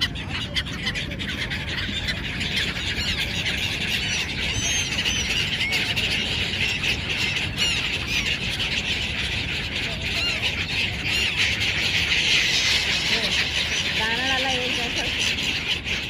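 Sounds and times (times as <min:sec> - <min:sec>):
flock of gulls squawking: 0:00.0 - 0:16.0
steady low rumble: 0:00.0 - 0:16.0.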